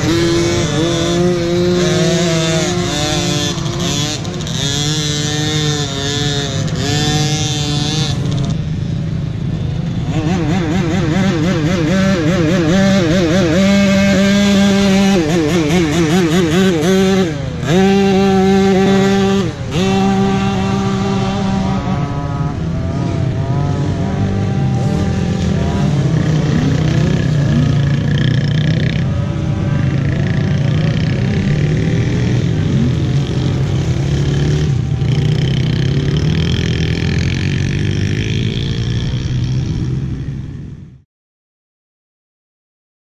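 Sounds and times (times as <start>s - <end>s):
dirt bike engine running: 0.0s - 40.6s
dirt bikes revving: 0.0s - 41.0s.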